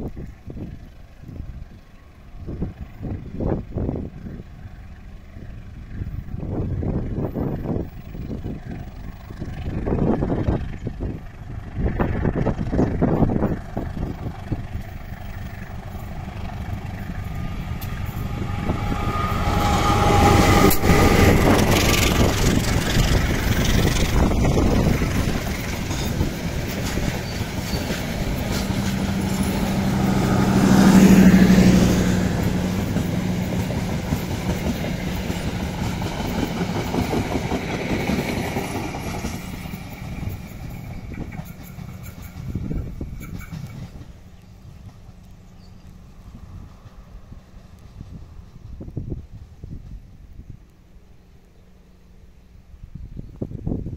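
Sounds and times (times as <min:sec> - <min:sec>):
locomotive engine: 0:00.0 - 0:52.9
train wheels rumbling on rails: 0:00.0 - 0:53.9.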